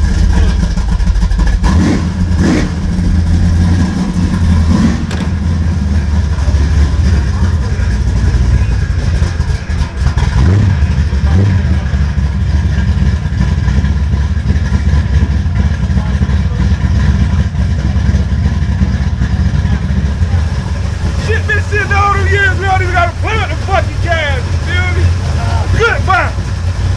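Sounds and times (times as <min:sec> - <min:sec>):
car engine rumbling: 0:00.0 - 0:26.9.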